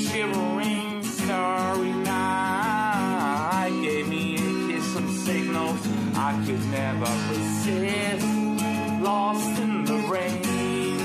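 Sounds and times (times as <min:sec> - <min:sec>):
acoustic guitar strummed chords: 0:00.0 - 0:11.0
person singing: 0:00.0 - 0:11.0.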